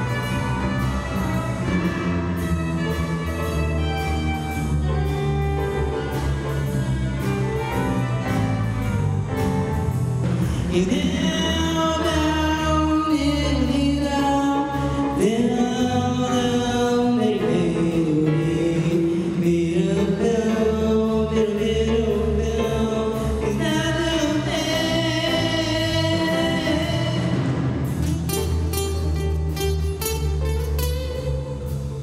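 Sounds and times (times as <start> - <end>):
orchestra playing slow song: 0.0 - 32.0.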